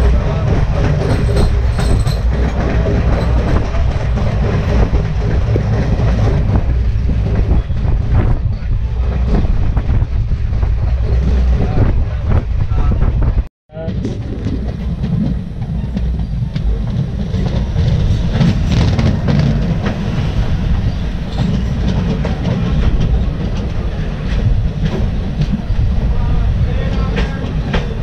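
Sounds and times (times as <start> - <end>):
train wheels clickety-clack: 0.0 - 28.0
trains rushing and rumbling: 0.0 - 28.0.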